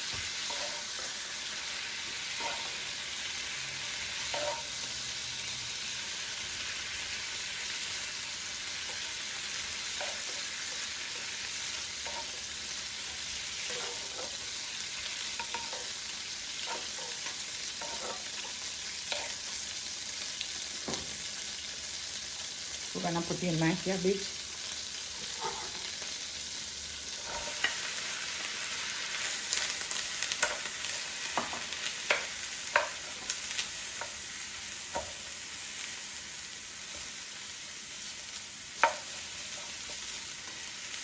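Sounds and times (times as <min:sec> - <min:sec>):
shrimp sizzling in hot oil: 0:00.0 - 0:41.0.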